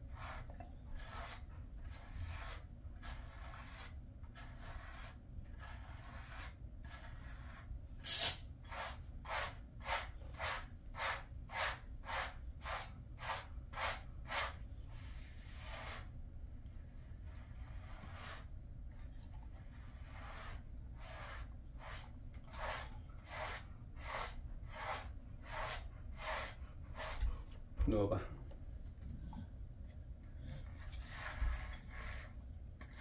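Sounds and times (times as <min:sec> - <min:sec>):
brush rasping through dog fur: 0:00.0 - 0:16.2, 0:17.2 - 0:18.6, 0:19.2 - 0:27.4, 0:30.5 - 0:33.0.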